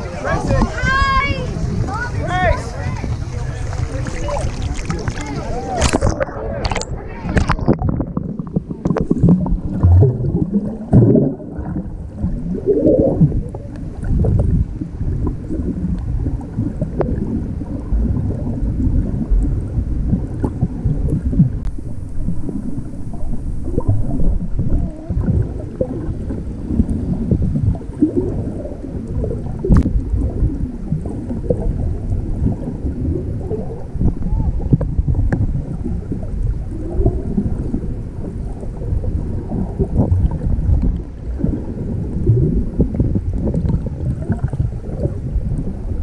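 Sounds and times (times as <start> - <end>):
muffled underwater rumble: 0.0 - 46.0
water gurgling: 0.0 - 46.0.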